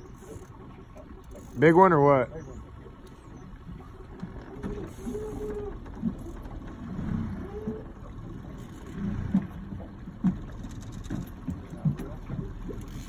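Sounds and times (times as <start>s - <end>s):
boat rumbling on river: 0.0s - 13.0s.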